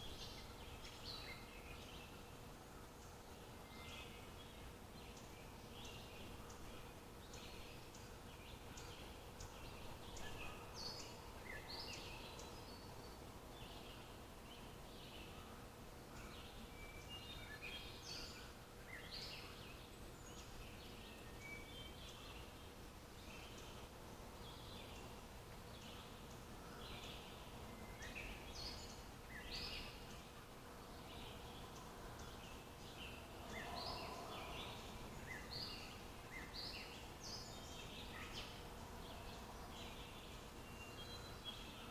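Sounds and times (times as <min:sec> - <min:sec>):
faint background hiss: 0:00.0 - 0:41.9.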